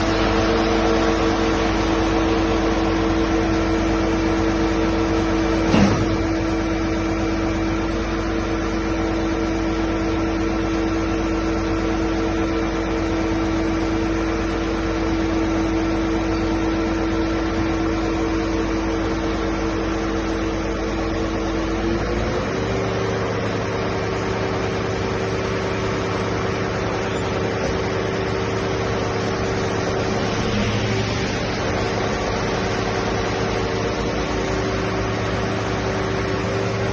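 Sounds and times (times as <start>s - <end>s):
concrete pump humming and whining: 0.0s - 36.9s.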